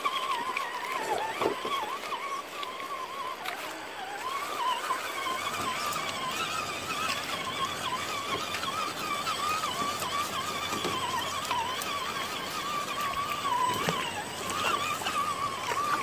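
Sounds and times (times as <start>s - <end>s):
electric motor and gearbox whining: 0.0s - 16.0s.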